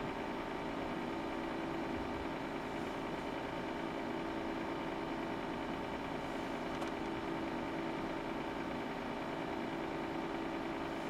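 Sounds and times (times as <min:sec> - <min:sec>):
cooling fans whirring: 0:00.0 - 0:11.0.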